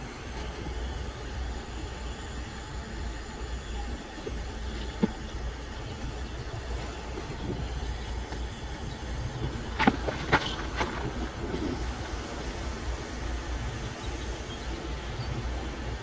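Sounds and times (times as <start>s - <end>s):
torch flame burning: 0.0s - 16.0s.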